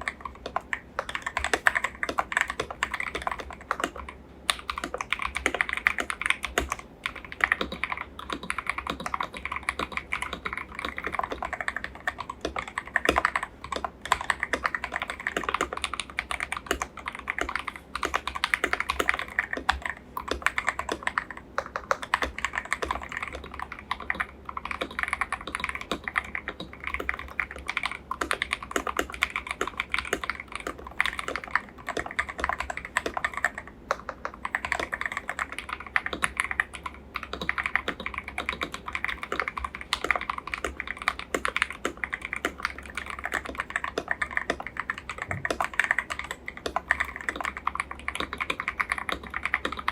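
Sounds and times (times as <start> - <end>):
fast typing on mechanical keyboard: 0.0 - 49.9.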